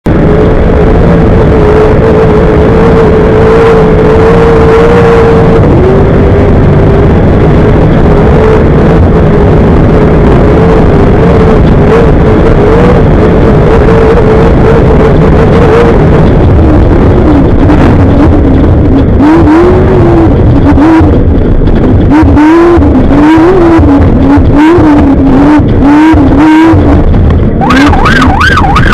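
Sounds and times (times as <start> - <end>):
race vehicle engine revving: 0.0 - 28.9.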